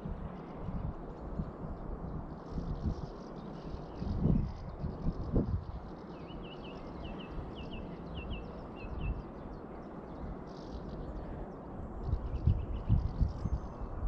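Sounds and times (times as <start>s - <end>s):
faint bird chirps: 2.1s - 14.0s.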